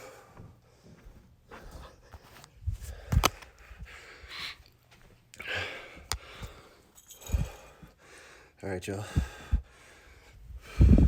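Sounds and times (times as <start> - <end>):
man breathing hard: 0.0 - 4.7, 5.4 - 11.0.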